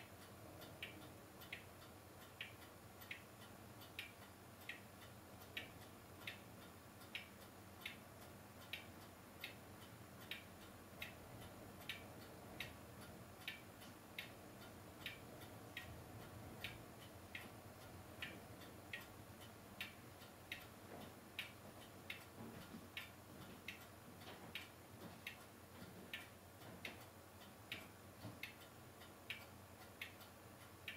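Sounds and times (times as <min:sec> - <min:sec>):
low hiss: 0:00.0 - 0:30.9
steady ticking: 0:00.0 - 0:30.9.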